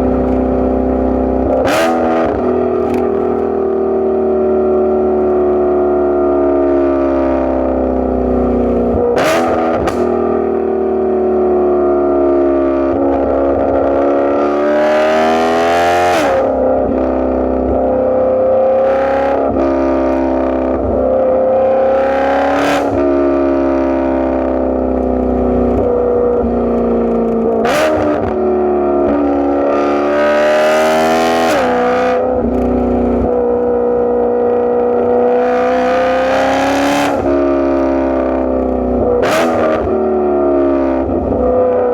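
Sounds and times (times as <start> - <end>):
car exhaust accelerating: 0.0 - 41.9.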